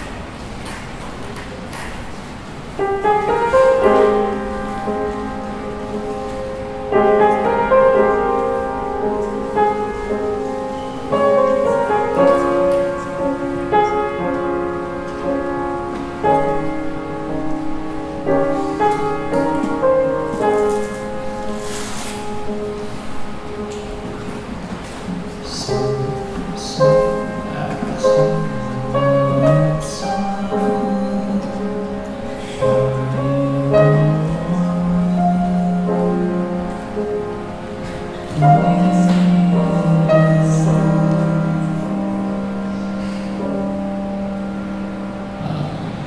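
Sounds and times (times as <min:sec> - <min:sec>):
piano playing slow chords: 0:00.0 - 0:46.0.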